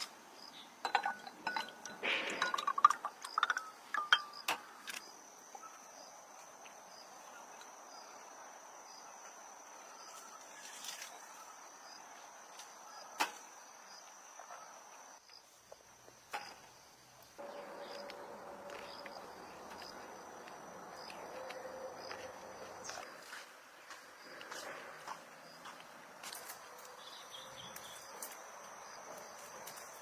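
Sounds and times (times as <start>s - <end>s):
insects chirring: 0.4s - 30.0s.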